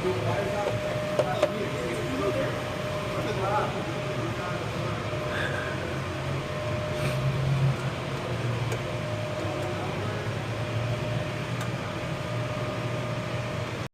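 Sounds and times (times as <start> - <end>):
faint steady whine: 0.0 - 13.9
fan rush: 0.0 - 13.9
furnace motor hum: 0.0 - 13.9.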